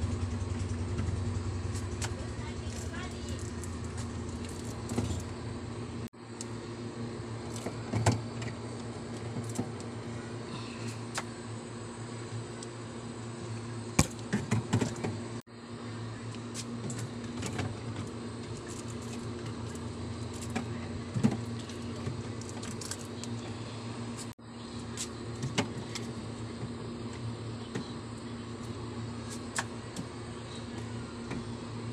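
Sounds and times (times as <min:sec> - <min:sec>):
refrigerator hum: 0:00.0 - 0:31.9.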